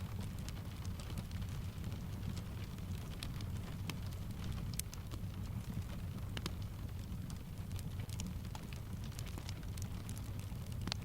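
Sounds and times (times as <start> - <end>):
fire ticks and crackles: 0.0 - 11.0
rain rumble: 0.0 - 11.0.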